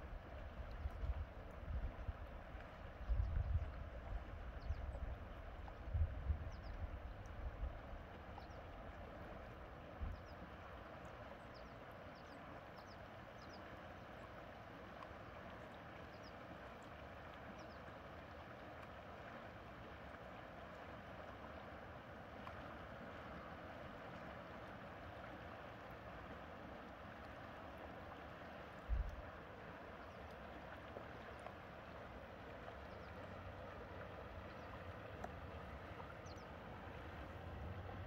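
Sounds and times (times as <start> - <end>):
river flowing past rocks: 0.0 - 38.0.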